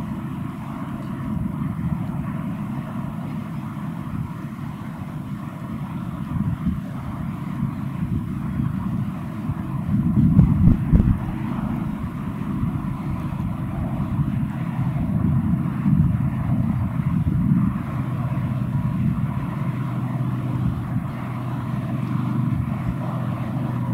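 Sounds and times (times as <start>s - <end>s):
distant motor rumble: 0.0s - 23.9s.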